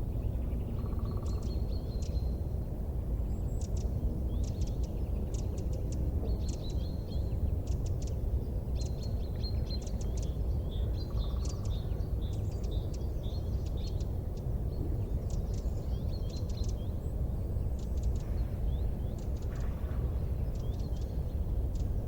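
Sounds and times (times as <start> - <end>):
steady low rumble: 0.0 - 22.0
small birds chirping: 3.3 - 22.0.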